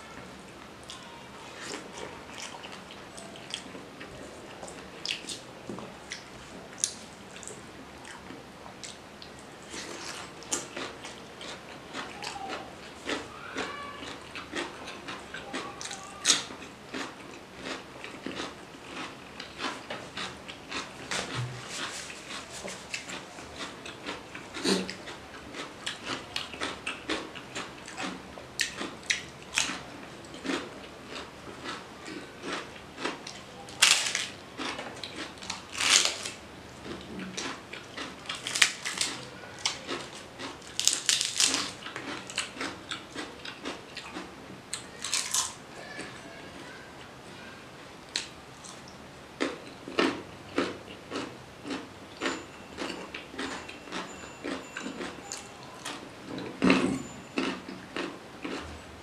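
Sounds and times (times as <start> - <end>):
person chewing food: 0.1 - 46.0, 48.1 - 58.8.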